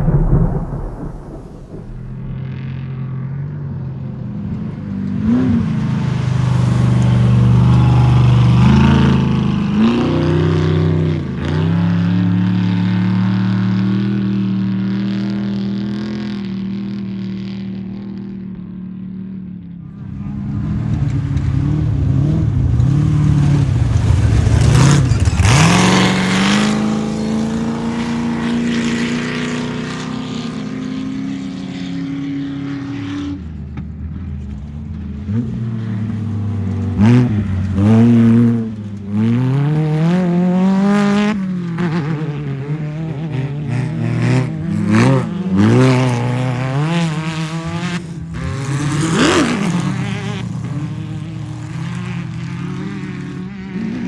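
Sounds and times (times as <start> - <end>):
off-road vehicles revving by: 4.4 - 54.0.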